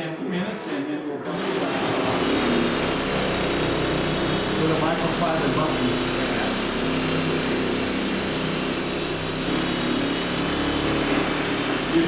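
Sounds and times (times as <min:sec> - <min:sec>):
electric buffer running: 0:01.2 - 0:12.0.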